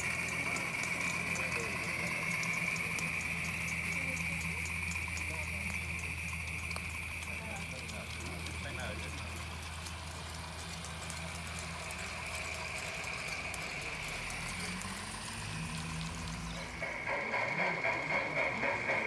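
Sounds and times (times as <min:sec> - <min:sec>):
model steam locomotive hum: 0:00.0 - 0:19.0
rhythmic steam chuffing: 0:00.0 - 0:19.0.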